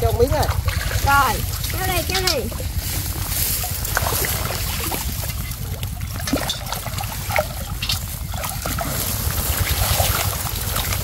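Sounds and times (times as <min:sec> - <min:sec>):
steady low rumble: 0:00.0 - 0:11.0
water splashing and trickling: 0:00.0 - 0:11.0.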